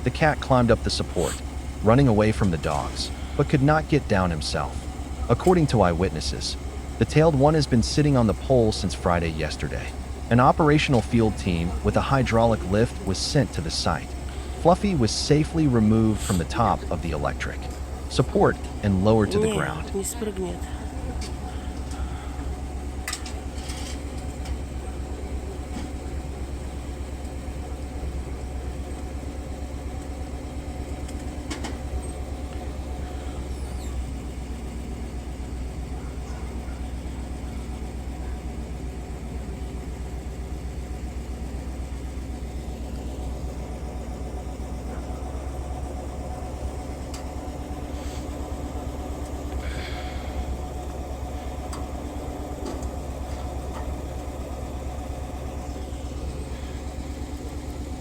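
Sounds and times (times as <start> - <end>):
truck engine humming: 0.0 - 58.0.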